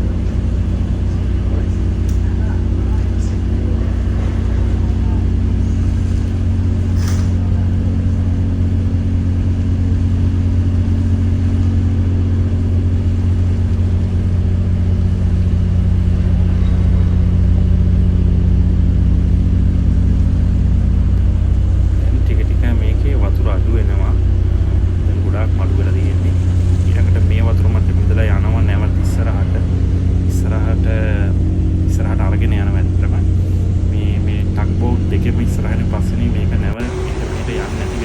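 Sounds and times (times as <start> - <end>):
ship machinery hum: 0.0 - 38.0.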